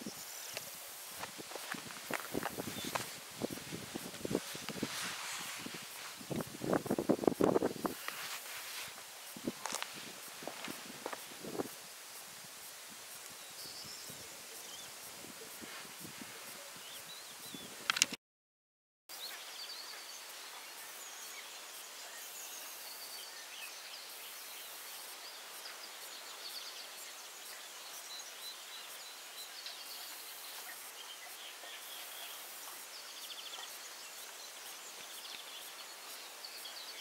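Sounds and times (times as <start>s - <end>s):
insect trills: 0.0s - 18.2s, 19.2s - 37.0s
small birds chirping: 0.0s - 18.2s, 19.1s - 37.0s
steady hiss: 0.0s - 18.2s, 19.1s - 37.0s.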